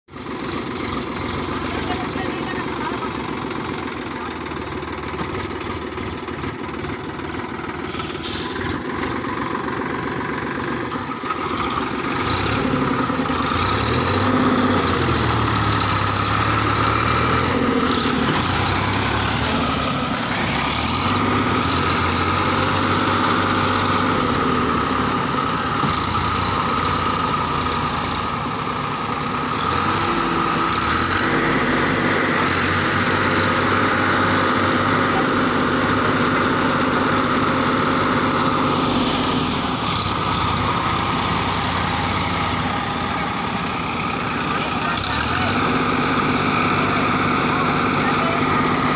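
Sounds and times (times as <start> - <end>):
tractor diesel engine revving: 0.1 - 48.9.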